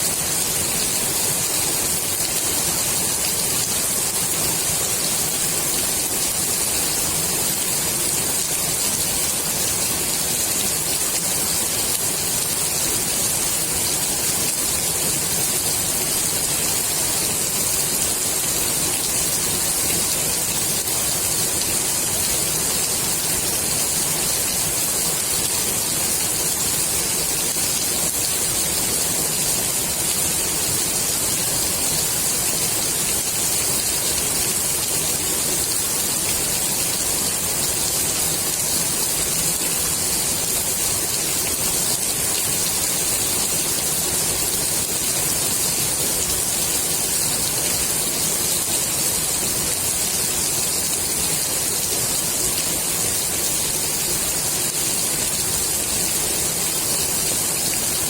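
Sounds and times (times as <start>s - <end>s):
rain falling on pool water: 0.0s - 58.0s.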